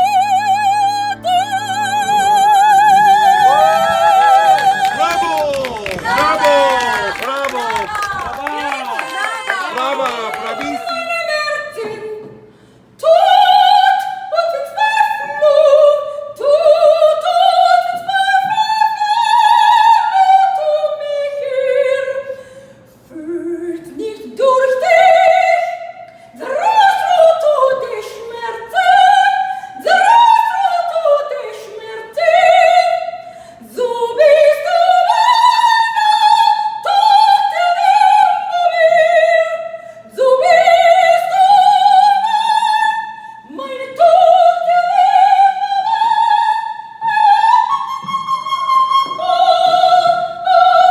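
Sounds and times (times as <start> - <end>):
soprano singing operatic aria: 0.0 - 12.4, 13.0 - 22.4, 23.1 - 50.9.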